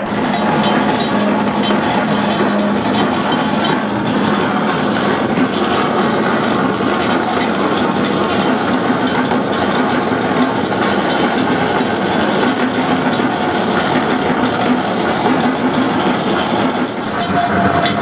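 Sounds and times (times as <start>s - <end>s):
dense wash of noise: 0.0s - 18.0s.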